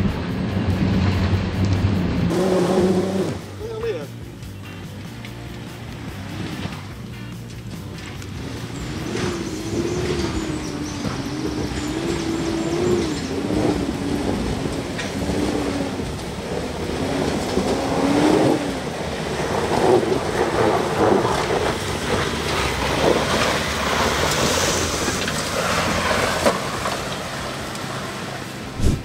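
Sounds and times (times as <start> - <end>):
pickup engine under load: 0.0 - 29.0
tyres crunching on loose stones: 3.5 - 29.0.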